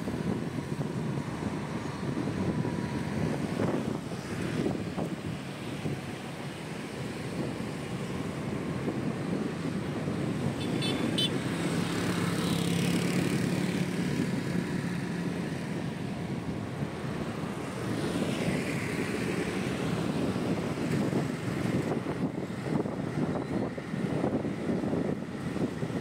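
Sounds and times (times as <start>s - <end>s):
city street traffic: 0.0s - 26.0s
motorbike engine and road noise: 0.0s - 26.0s.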